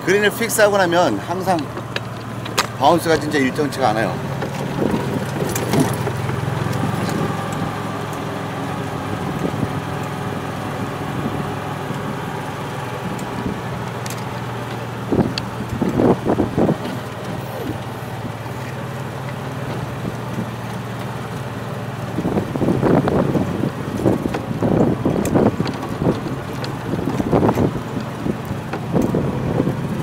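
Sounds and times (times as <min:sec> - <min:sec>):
golf cart humming: 0:00.0 - 0:30.0.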